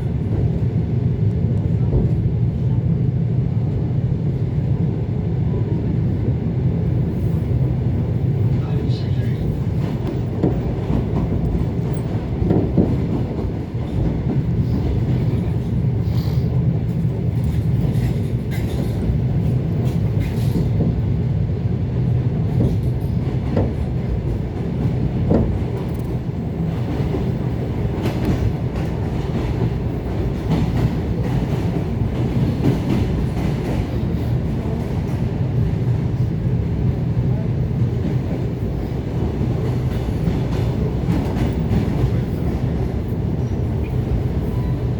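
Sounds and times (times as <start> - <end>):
wheels rumbling on rails: 5.8 - 44.9.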